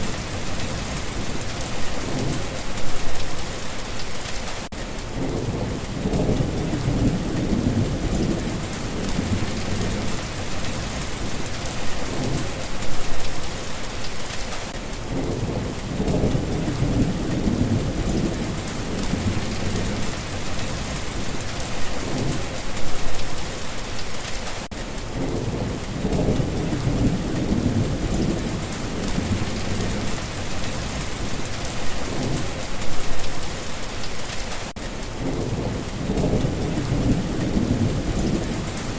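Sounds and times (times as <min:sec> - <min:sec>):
thunder rumbling: 0:00.0 - 0:03.6, 0:05.0 - 0:13.9, 0:15.0 - 0:23.6, 0:25.1 - 0:33.9, 0:35.1 - 0:38.9
heavy rain hissing: 0:00.0 - 0:38.9.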